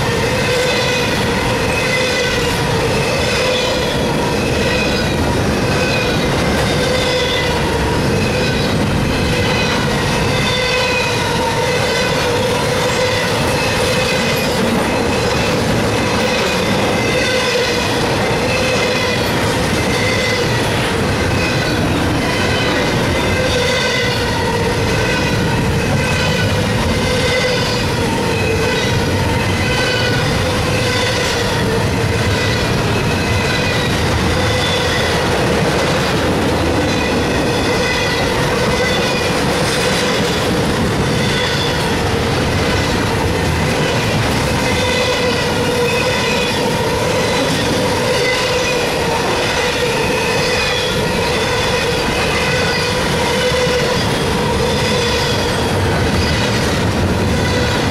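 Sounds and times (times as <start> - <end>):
steel wheels rumbling on rail: 0.0 - 57.9.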